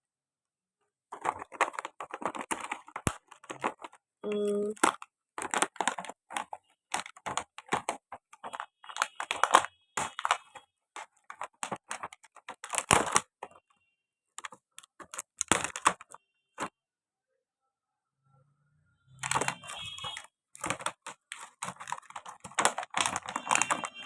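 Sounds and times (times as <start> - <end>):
plastic packaging clicks and crackles: 1.1 - 13.8, 14.4 - 16.7, 19.1 - 24.0.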